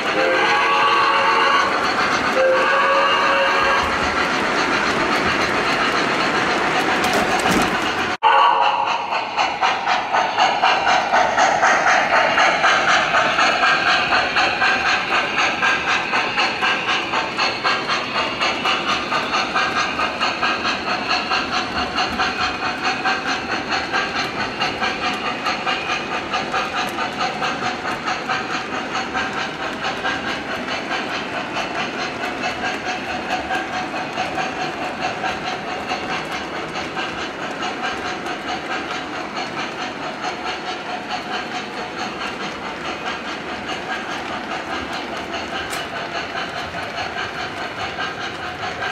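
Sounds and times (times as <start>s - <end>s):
model steam locomotive chuffing: 0.0s - 48.9s
train wheels clattering on track: 0.0s - 48.9s.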